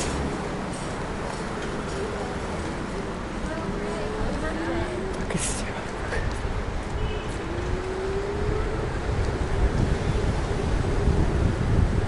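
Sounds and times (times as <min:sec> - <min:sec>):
scooter road rumble: 0:00.0 - 0:12.0
wind: 0:00.0 - 0:12.0.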